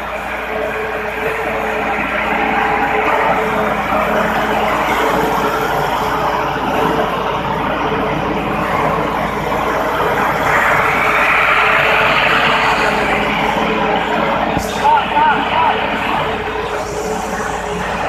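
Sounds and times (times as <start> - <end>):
concrete pump engine running: 0.0 - 18.0.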